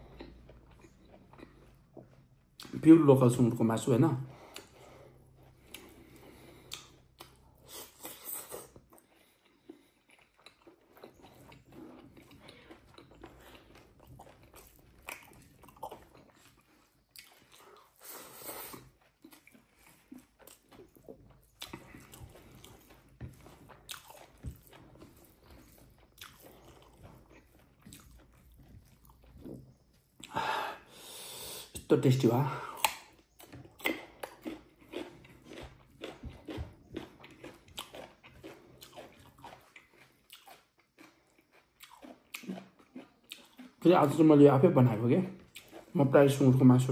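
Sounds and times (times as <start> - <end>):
man chewing and crunching food: 0.0 - 46.9.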